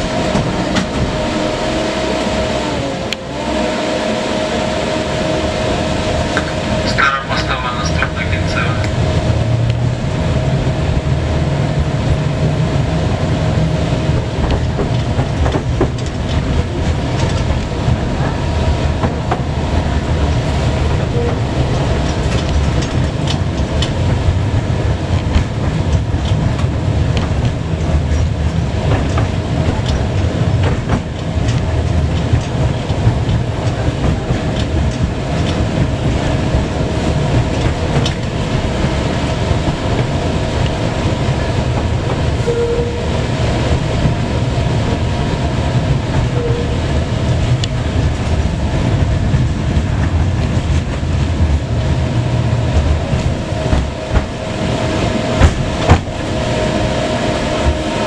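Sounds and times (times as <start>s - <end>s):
steady whining tone: 0.0s - 58.0s
tram rumbling: 0.0s - 58.0s
wheels clacking on rails: 0.0s - 58.0s.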